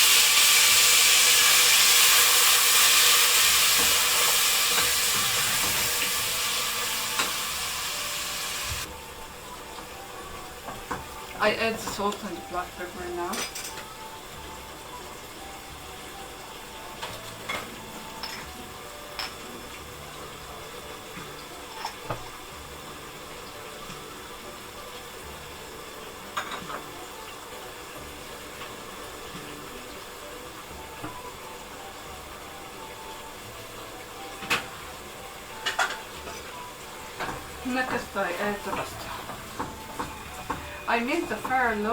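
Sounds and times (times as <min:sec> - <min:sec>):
sauce sizzling in a pan: 0:00.0 - 0:41.9.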